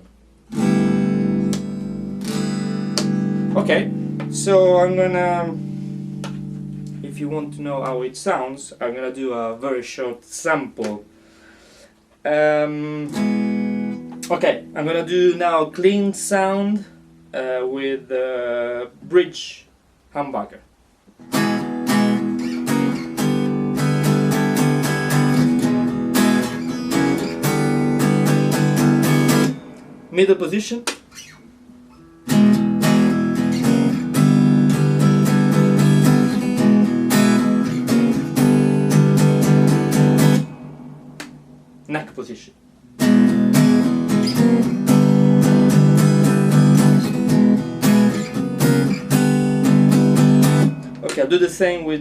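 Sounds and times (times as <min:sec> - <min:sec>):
clean electric guitar strumming chords: 0:00.0 - 0:11.4, 0:12.0 - 0:19.2, 0:21.1 - 0:52.0.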